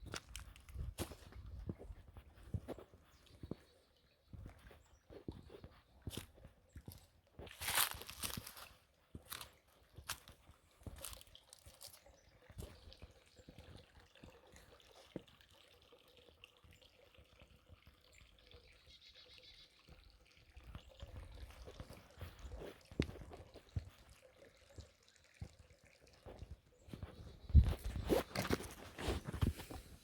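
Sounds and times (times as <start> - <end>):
creek water trickling: 0.0 - 30.0.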